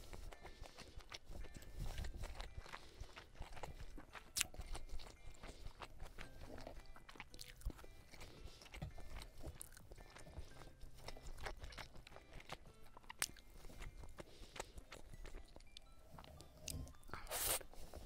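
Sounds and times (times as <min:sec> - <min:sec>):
close chewing of noodles: 0:00.0 - 0:18.0.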